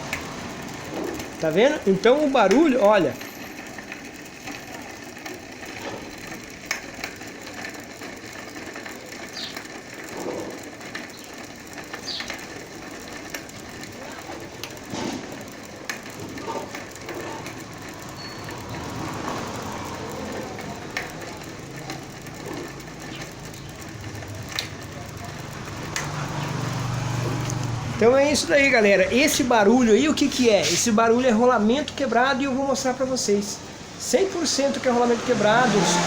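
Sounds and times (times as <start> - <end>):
bicycle wheel hub clicking: 0.0 - 36.0.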